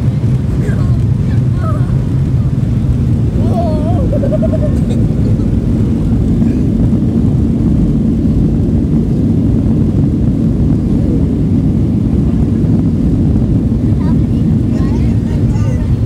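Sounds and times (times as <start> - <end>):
jet engines and wheels rumbling: 0.0 - 16.0.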